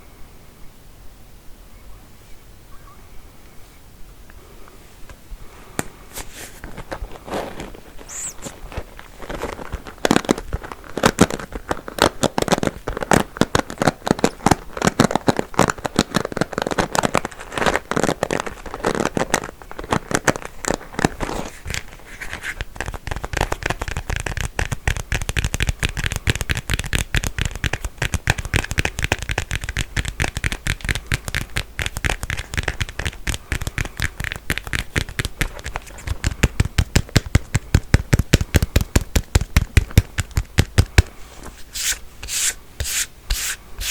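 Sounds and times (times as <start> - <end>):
rubbing: 6.2 - 43.9.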